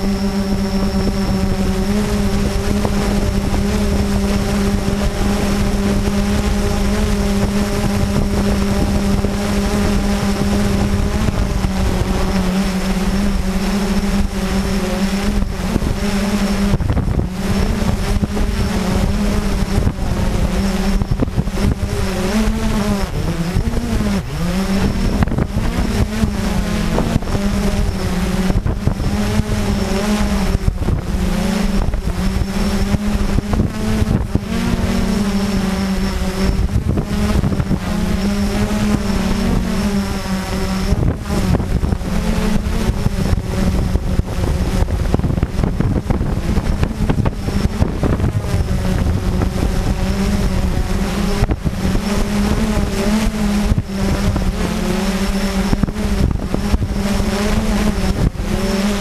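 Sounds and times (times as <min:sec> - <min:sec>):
quadcopter motors droning: 0:00.0 - 0:59.0.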